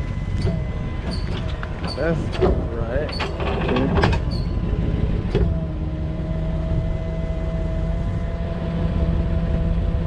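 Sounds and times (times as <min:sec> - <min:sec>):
hydraulic pump whine: 0:00.0 - 0:10.0
truck engine rumble: 0:00.0 - 0:10.0.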